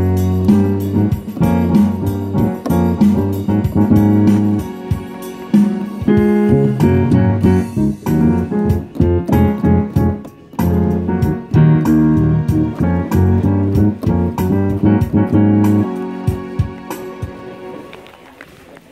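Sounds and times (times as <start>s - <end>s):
piano chords and bass notes: 0.0s - 18.1s.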